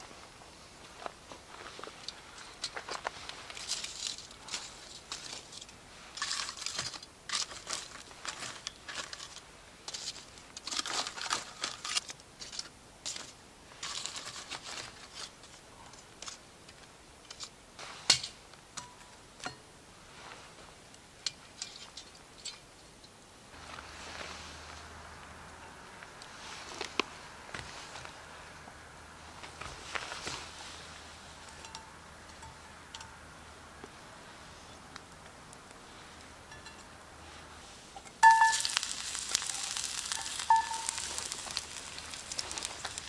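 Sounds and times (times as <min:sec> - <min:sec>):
wood and embers scraping: 0:00.0 - 0:19.1, 0:20.0 - 0:43.0.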